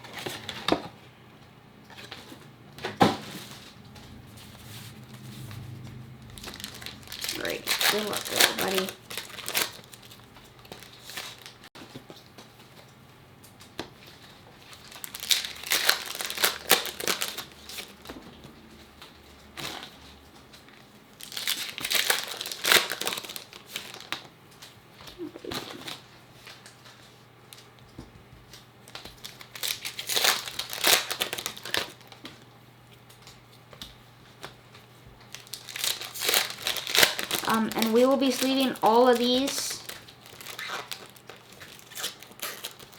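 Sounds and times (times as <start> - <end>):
plastic and foil packaging crinkling: 6.3 - 12.9, 13.6 - 27.8, 28.4 - 42.9.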